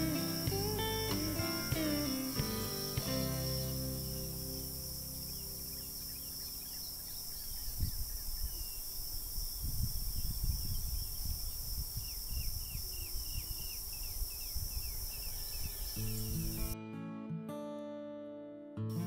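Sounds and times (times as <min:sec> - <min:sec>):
bird chirping: 0:00.0 - 0:09.0, 0:10.2 - 0:16.8
crickets droning: 0:00.0 - 0:16.8.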